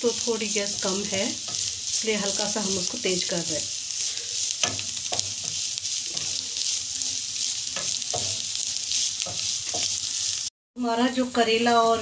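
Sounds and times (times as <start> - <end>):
vegetables sizzling in oil: 0.0 - 12.0
wooden spatula scraping pan: 0.1 - 10.5.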